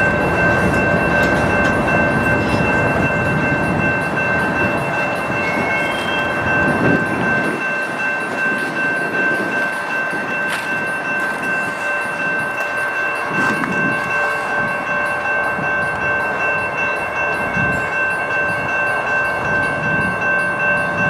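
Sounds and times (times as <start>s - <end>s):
high-pitched tones: 0.0s - 21.0s
train wheels rumbling and knocking: 0.0s - 21.0s.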